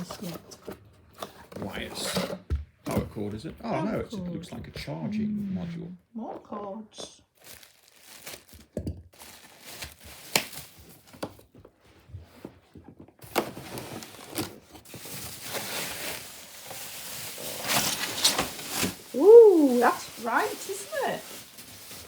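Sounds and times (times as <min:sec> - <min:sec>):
plastic and cardboard rustling: 0:00.0 - 0:03.2, 0:07.4 - 0:22.0.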